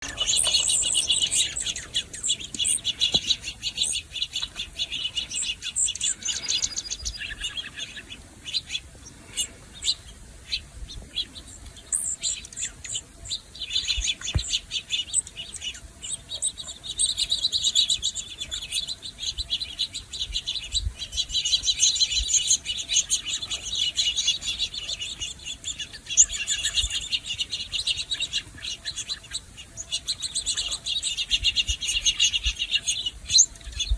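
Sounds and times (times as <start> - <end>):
birds chirping and twittering: 0.0 - 33.9.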